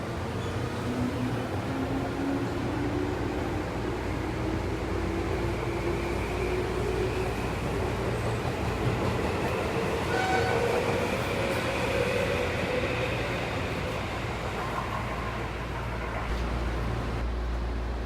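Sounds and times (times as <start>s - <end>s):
running train rumble: 0.0s - 18.0s.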